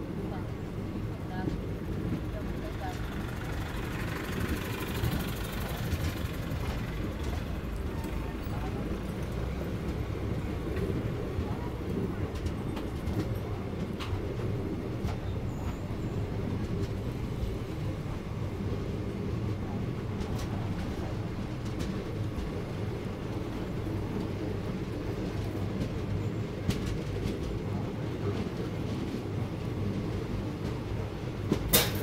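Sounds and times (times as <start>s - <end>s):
train coach rumble: 0.0s - 32.0s.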